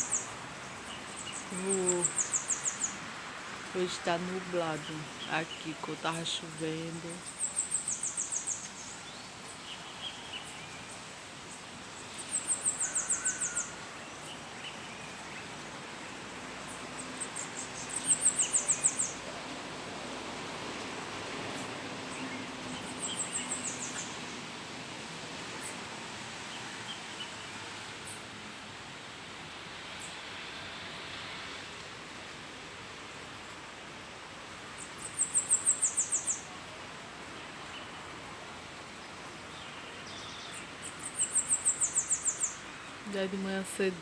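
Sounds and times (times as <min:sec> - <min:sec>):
outdoor background hiss: 0:00.0 - 0:44.0.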